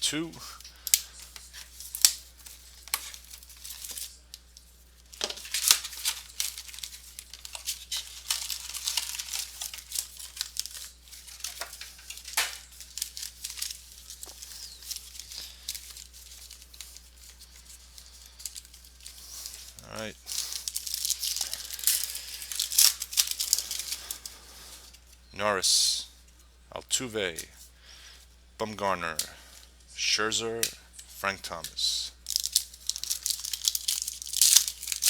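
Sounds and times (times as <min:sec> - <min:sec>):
plastic wrappers tearing and crinkling: 0:00.0 - 0:25.2, 0:31.0 - 0:35.0.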